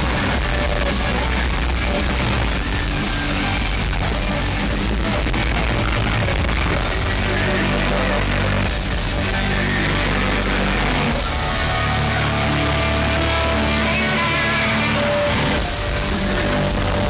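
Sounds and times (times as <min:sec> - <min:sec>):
distorted electric guitar: 0:00.0 - 0:17.0
heavy rock band playing live: 0:00.0 - 0:17.0.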